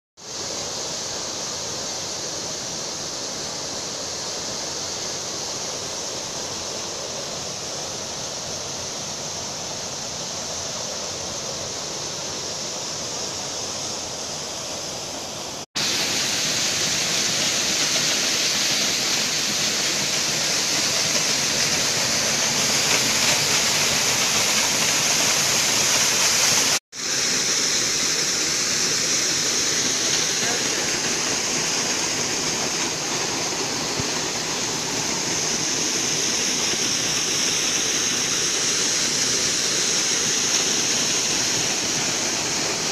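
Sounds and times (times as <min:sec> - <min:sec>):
waterfall rushing: 0:00.2 - 0:42.9.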